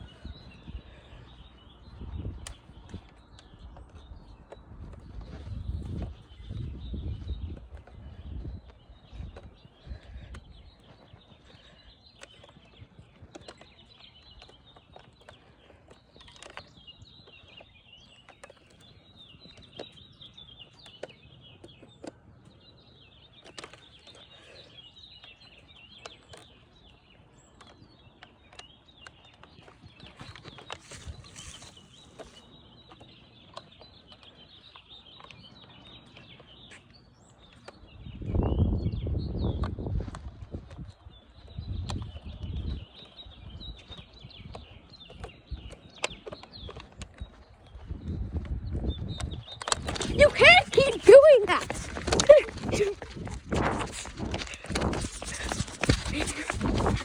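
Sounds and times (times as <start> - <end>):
birds chirping: 0.0 - 57.0
faint clicks and rustles: 7.5 - 37.9, 40.0 - 57.0.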